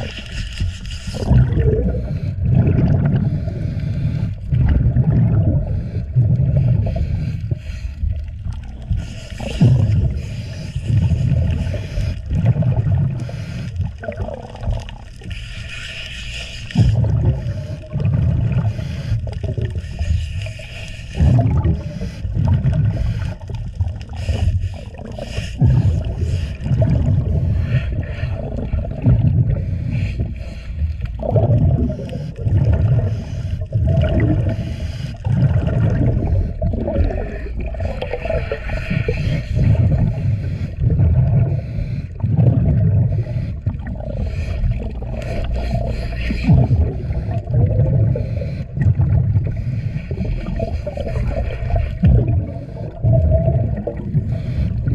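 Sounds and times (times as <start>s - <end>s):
air bubbles gurgling: 0.0s - 15.4s, 16.6s - 54.9s
scrub pad scrubbing underwater: 0.0s - 54.9s.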